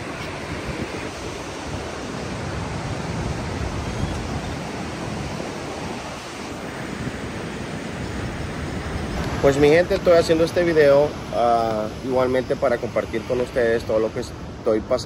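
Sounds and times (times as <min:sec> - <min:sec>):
ocean waves breaking: 0:00.0 - 0:14.9.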